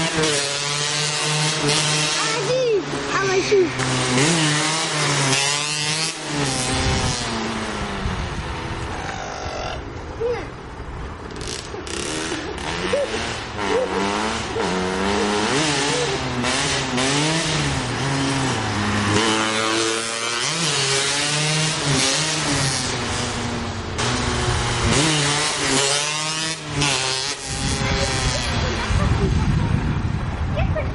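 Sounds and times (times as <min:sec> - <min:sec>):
dirt bike engine revving: 0:00.0 - 0:09.9, 0:11.3 - 0:30.1.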